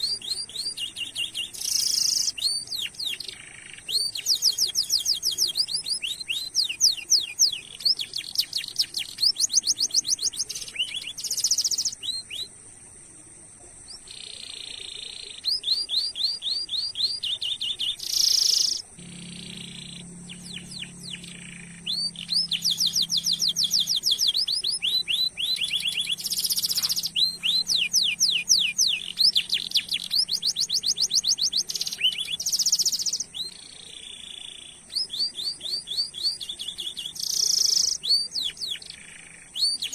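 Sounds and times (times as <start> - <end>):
canary singing: 0.0 - 12.6, 13.9 - 39.9
faint low hum: 0.0 - 39.9.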